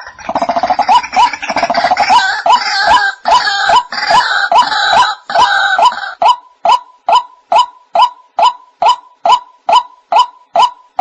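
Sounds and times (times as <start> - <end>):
harsh croaking bird calls: 0.0 - 11.0
rapid stuttering bird calls: 0.0 - 11.0.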